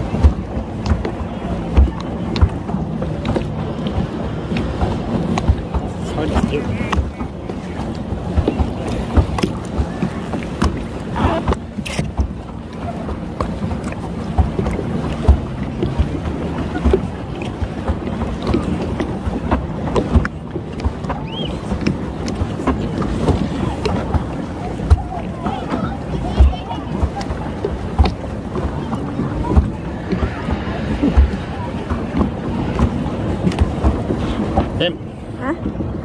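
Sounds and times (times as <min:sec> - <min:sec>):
water splashing against boat hull: 0:00.0 - 0:36.0
wind buffeting microphone: 0:00.0 - 0:36.0.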